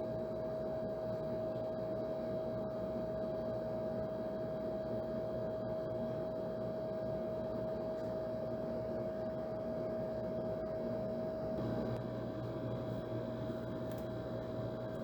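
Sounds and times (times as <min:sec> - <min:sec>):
air conditioner whirring: 0:00.0 - 0:15.0.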